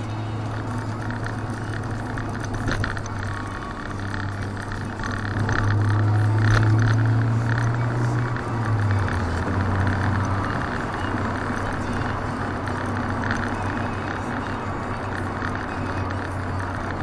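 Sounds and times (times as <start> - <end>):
car engine droning: 0.0 - 17.0
tyre and road noise: 0.0 - 17.0.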